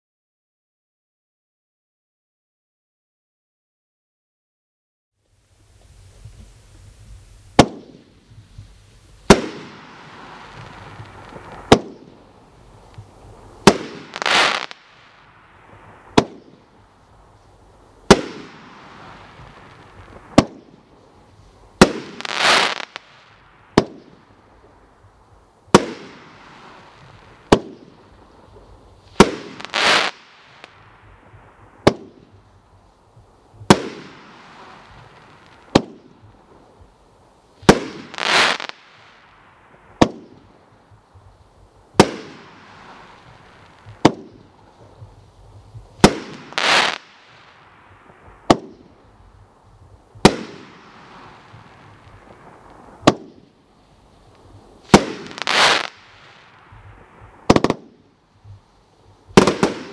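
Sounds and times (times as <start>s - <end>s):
firework bangs with hiss: 5.3s - 59.9s
noisy firework burst: 5.6s - 59.9s.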